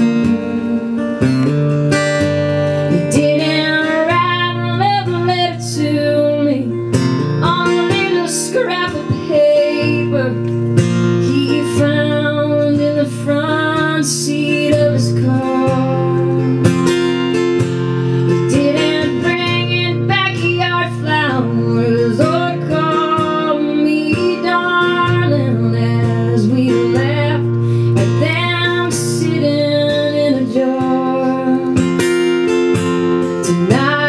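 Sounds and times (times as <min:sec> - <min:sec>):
woman singing: 0:00.0 - 0:01.6, 0:02.2 - 0:17.3, 0:18.2 - 0:34.0
acoustic guitar: 0:00.0 - 0:34.0.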